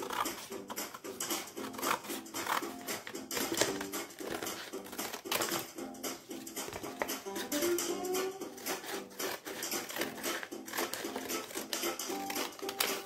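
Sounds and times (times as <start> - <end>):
scissors snipping paper: 0.0 - 5.8, 6.4 - 13.0
soft plucked background music: 0.0 - 13.0.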